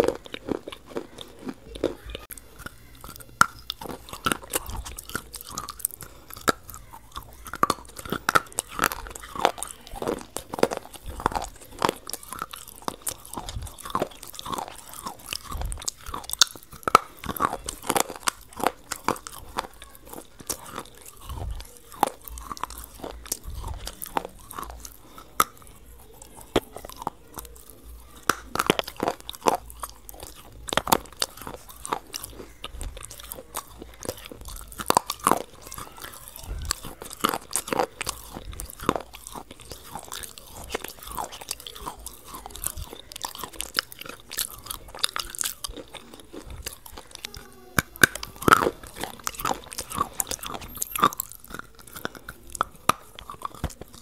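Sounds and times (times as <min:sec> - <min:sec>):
mouth clicks: 0:00.0 - 0:54.0
person chewing crunchy food: 0:00.0 - 0:54.0.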